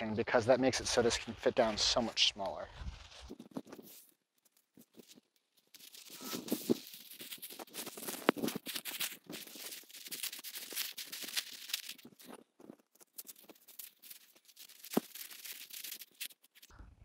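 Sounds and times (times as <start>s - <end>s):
tent fabric crinkling: 1.6s - 16.7s.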